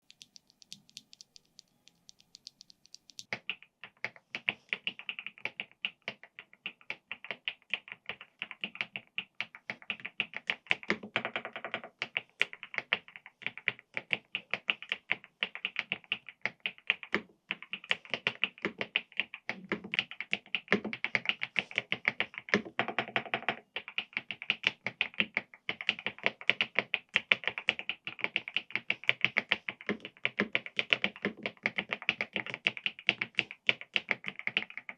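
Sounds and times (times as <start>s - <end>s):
mechanical keyboard typing: 0.0s - 34.9s.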